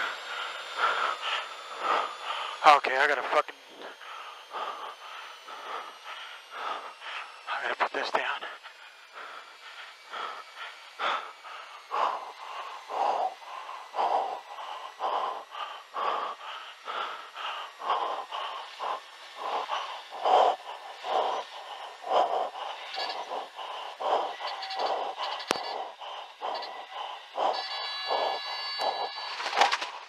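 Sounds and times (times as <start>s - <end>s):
person breathing hard: 0.0s - 30.0s.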